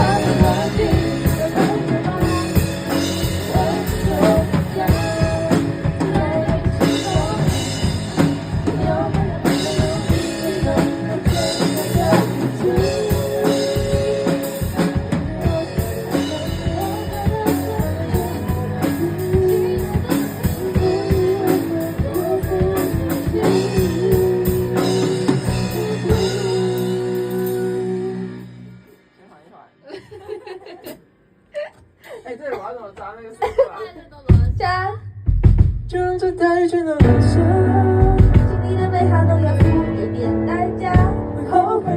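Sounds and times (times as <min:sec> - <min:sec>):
sped-up pop ballad recording: 0:00.0 - 0:28.9, 0:35.9 - 0:41.9
drum kit playing: 0:00.0 - 0:33.2, 0:34.1 - 0:41.9.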